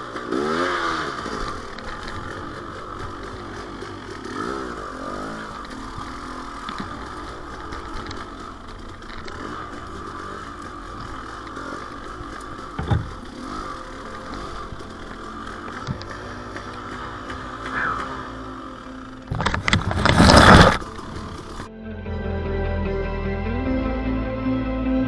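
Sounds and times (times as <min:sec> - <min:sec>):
dirt bike engine revving: 0:00.0 - 0:21.7.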